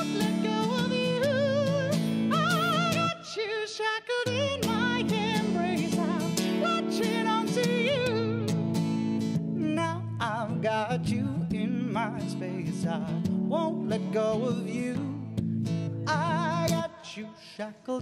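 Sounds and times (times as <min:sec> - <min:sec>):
strummed acoustic guitar: 0:00.0 - 0:03.4, 0:04.2 - 0:17.6
man singing with vibrato: 0:00.0 - 0:08.5, 0:09.6 - 0:15.4, 0:16.0 - 0:18.0.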